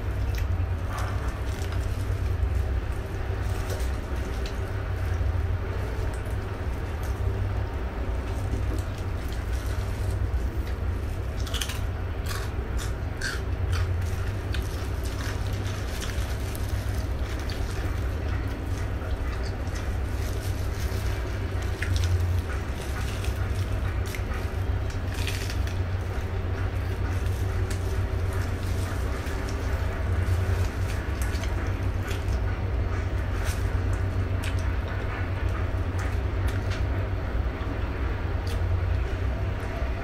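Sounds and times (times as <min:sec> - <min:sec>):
chewing crunchy lettuce: 0:00.0 - 0:40.0
steady low rumble: 0:00.0 - 0:40.0.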